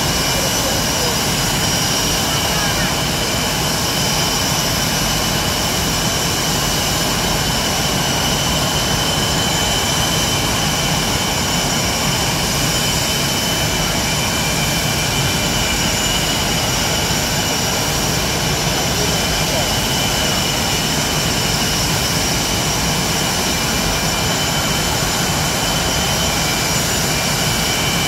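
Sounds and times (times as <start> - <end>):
high-pitched turbine whine: 0.0 - 28.0
jet engines rushing: 0.0 - 28.0.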